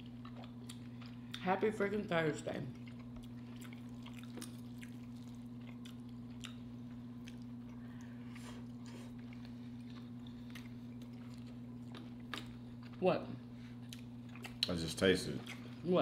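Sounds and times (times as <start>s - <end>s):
people chewing: 0.0s - 1.5s, 2.7s - 15.9s
low electrical hum: 0.0s - 16.0s.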